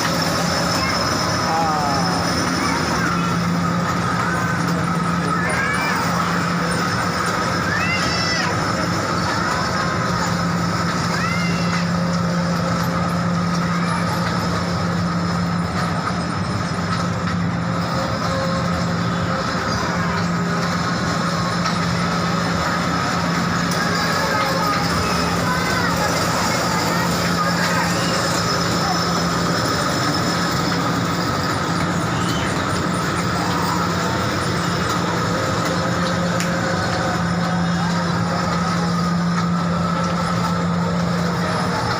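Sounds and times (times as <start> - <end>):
constant low hum: 0.0 - 41.9
train rolling noise: 0.0 - 41.9.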